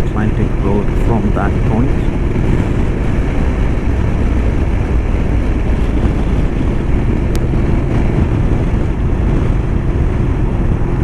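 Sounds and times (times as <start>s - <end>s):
motorcycle engine hum: 0.0s - 11.0s
wind rush on microphone: 0.0s - 11.0s.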